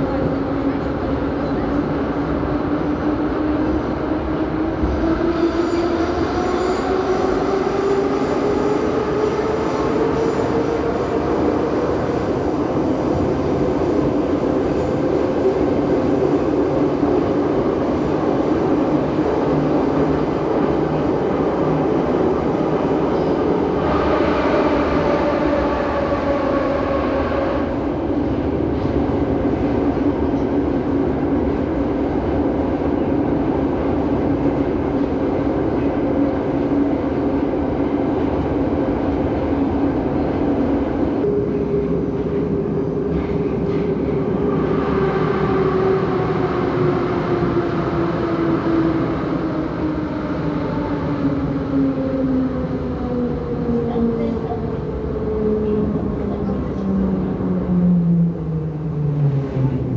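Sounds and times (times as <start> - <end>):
metro train running: 0.0 - 59.9.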